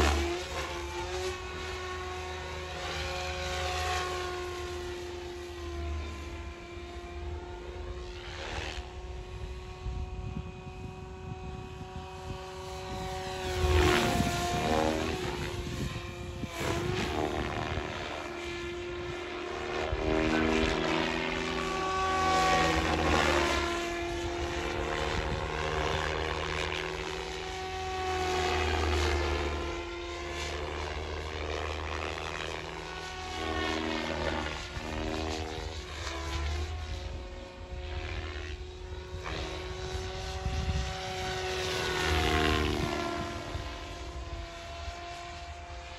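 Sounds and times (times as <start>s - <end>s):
model helicopter rotor whine: 0.0s - 45.9s.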